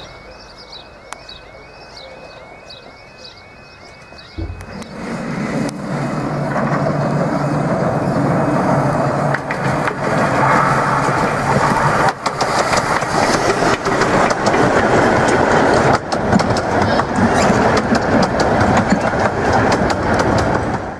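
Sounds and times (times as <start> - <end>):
steam locomotive running past: 0.0 - 20.9
wheels clicking over rail joints: 3.8 - 20.9.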